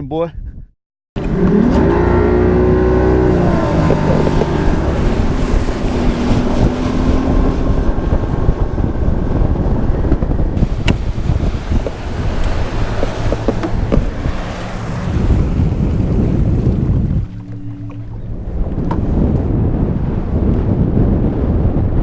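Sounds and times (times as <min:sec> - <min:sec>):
wind buffeting microphone: 0:00.1 - 0:22.0
humming motor drone: 0:01.2 - 0:22.0.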